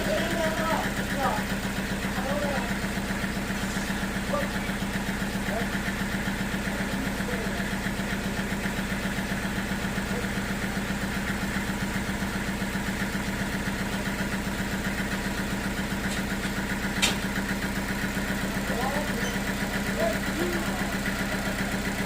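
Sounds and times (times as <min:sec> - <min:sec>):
sawmill engine idling: 0:00.0 - 0:22.0.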